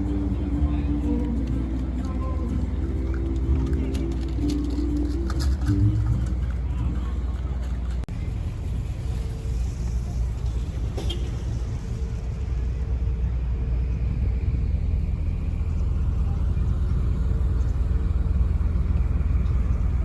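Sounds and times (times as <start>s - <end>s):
boat diesel engine rumbling: 0.0s - 20.0s.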